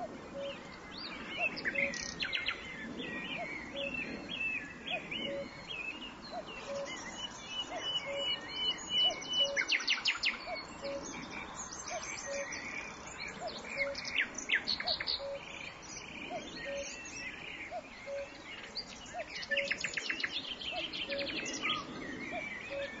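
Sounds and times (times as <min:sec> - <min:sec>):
birds chirping and trilling: 0:00.0 - 0:23.0.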